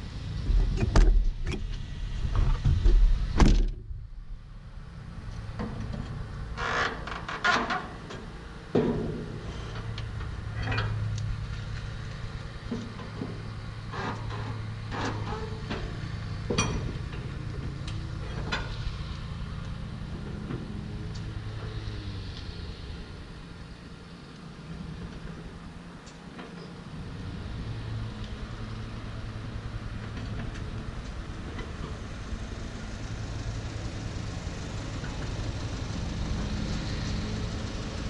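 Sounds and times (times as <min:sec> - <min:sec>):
heavy vehicle engine humming: 0:00.0 - 0:38.0.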